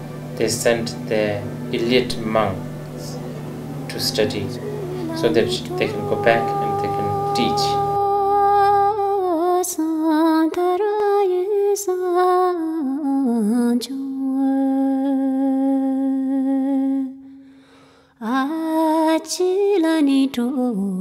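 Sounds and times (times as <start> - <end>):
person singing ornamented melody: 0.0 - 17.0.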